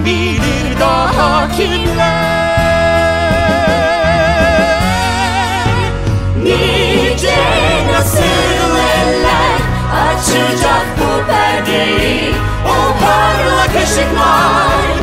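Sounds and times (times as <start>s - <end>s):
voices singing together: 0.2s - 3.8s, 4.5s - 15.0s
instrumental accompaniment: 0.2s - 15.0s.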